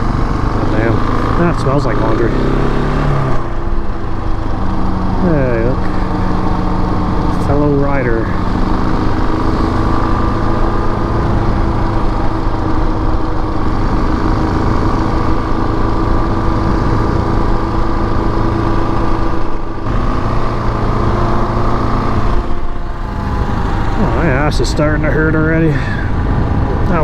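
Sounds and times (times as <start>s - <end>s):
motorcycle engine cruising: 0.0s - 27.0s.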